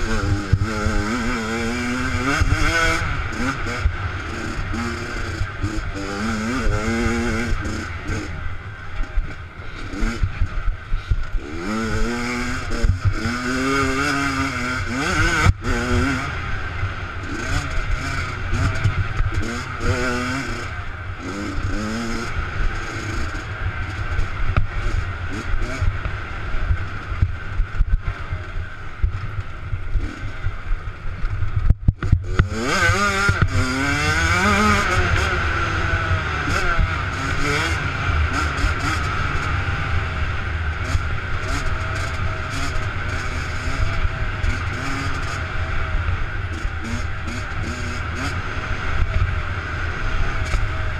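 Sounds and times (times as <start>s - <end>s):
minibike engine revving: 0.0s - 50.9s.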